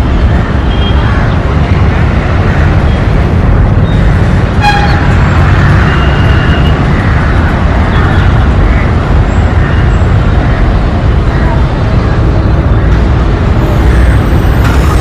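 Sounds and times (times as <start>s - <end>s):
diesel locomotive engine chugging: 0.0s - 15.0s.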